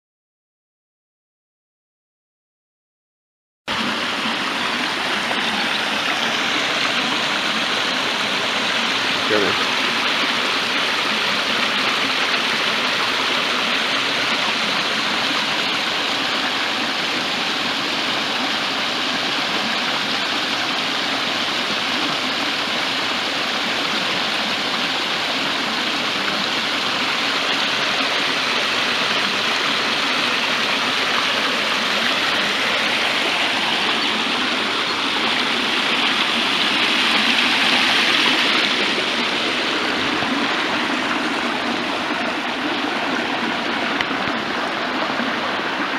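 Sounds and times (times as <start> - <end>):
stream flowing water: 3.7 - 45.9.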